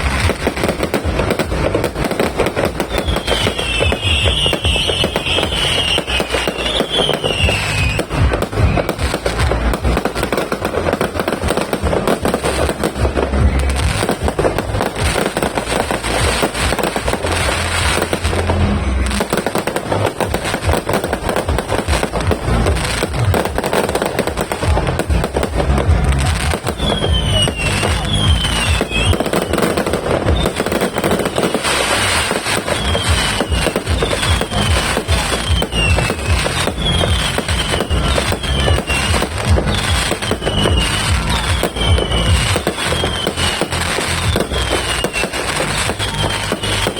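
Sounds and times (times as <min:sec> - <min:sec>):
fireworks low booms: 0:00.0 - 0:46.9
fireworks pops and crackling: 0:00.0 - 0:46.9
fireworks whistles: 0:00.0 - 0:46.9.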